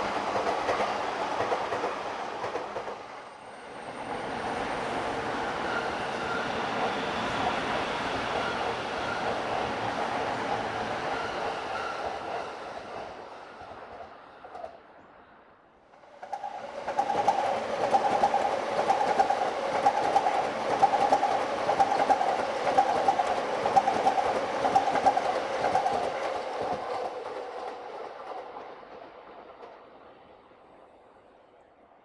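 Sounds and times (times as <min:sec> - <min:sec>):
train wheels clicking on rails: 0:00.0 - 0:03.4, 0:05.1 - 0:14.9, 0:15.9 - 0:31.0
electric train passing: 0:00.0 - 0:32.0.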